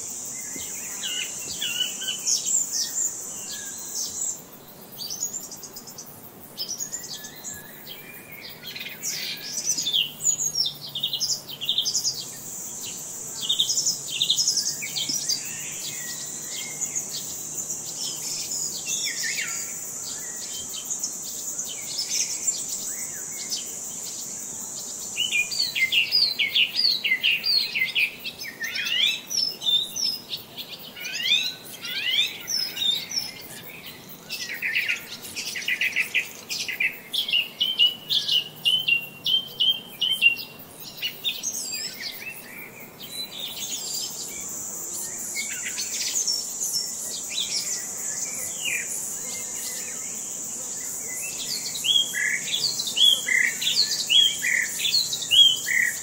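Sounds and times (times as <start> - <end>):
high-pitched insect drone: 0.0 - 56.0
small birds chirping and trilling: 0.0 - 56.0.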